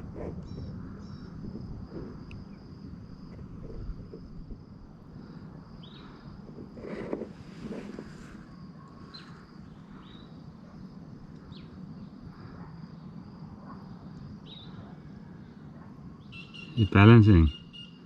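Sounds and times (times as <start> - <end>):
insect trill: 0.0 - 18.0.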